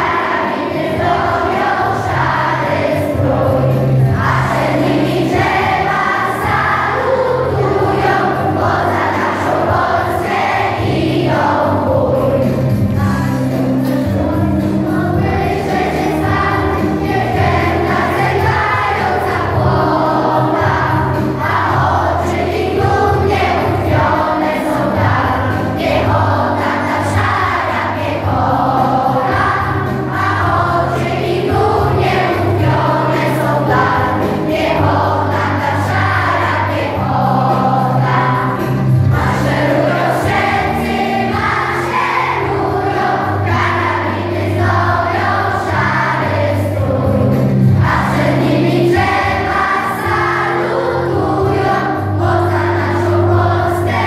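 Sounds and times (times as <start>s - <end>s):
choir and women singing: 0.0s - 54.0s.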